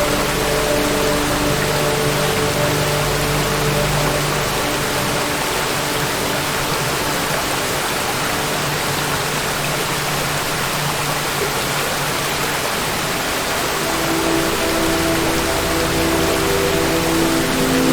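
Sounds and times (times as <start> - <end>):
faint sustained musical tones: 0.0 - 11.5, 13.1 - 17.9
waterfall rushing: 0.0 - 17.9.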